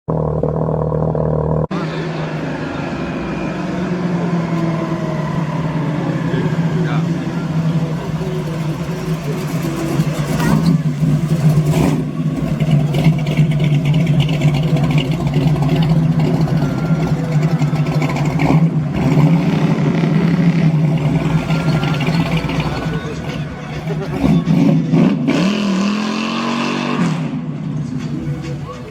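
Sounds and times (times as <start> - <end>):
car engine idling: 0.1 - 24.8, 27.4 - 28.9.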